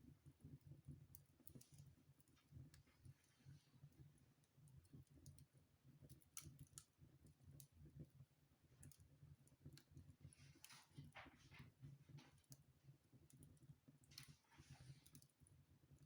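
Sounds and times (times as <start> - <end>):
faint wood fire crackling: 0.0 - 16.0
low fire rumble: 0.0 - 16.0.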